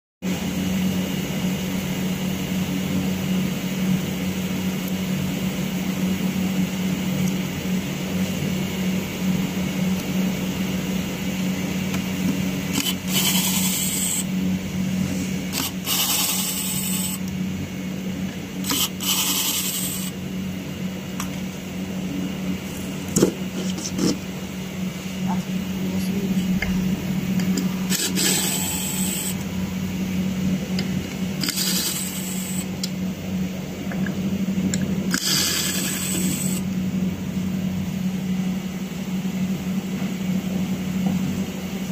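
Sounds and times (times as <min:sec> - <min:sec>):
low electrical hum: 0:00.3 - 0:41.9.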